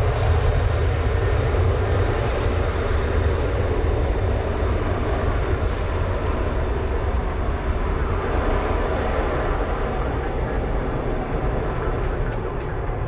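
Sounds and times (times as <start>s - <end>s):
jet engines on takeoff roll: 0.0s - 13.0s.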